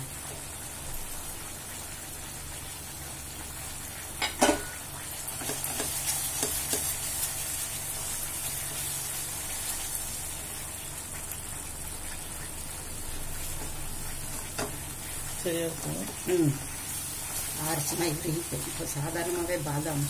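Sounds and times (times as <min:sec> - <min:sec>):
halwa sizzling and bubbling: 0:00.0 - 0:20.0.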